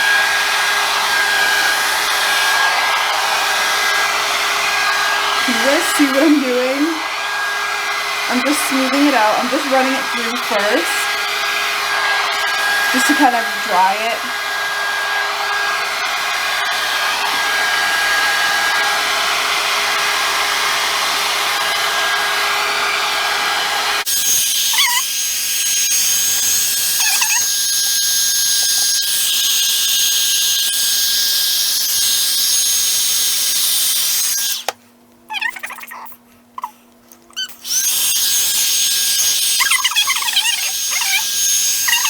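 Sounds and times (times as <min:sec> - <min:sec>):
hot air brush blowing: 0:00.0 - 0:34.8, 0:37.6 - 0:42.0.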